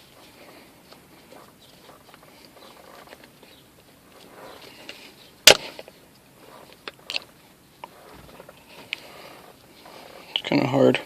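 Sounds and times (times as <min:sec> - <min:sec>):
soft handling noises: 0:00.0 - 0:11.0.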